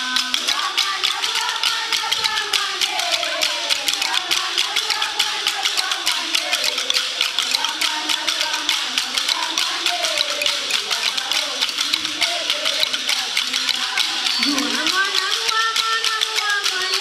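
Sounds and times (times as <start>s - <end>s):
women singing a chant: 0.0s - 17.0s
wooden sticks clacking together: 0.0s - 17.0s.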